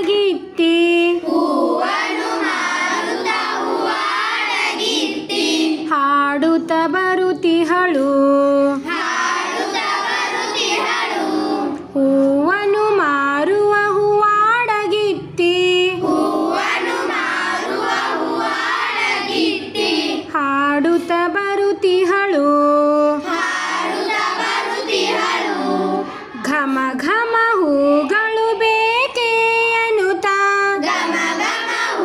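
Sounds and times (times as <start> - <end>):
children and woman singing: 0.0 - 32.0.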